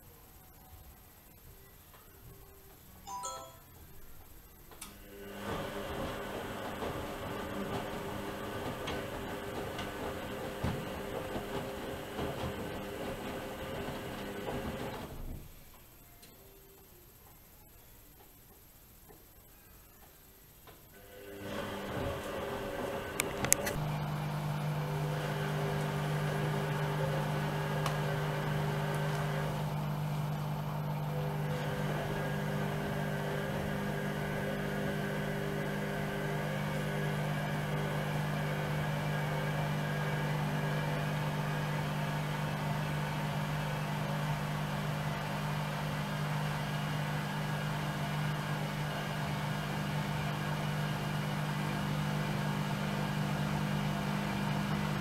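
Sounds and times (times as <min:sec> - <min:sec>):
washing machine drum humming: 0:05.0 - 0:15.6, 0:21.0 - 0:55.0.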